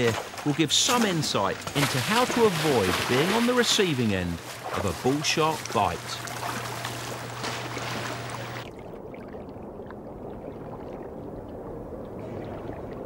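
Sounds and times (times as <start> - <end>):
low rumble of water: 0.0 - 13.0
water splashing and churning: 0.0 - 13.0.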